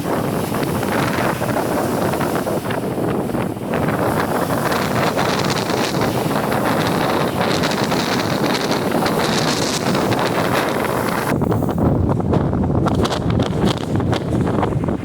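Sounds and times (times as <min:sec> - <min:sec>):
strong wind on microphone: 0:00.0 - 0:15.0
waves churning: 0:00.0 - 0:15.0.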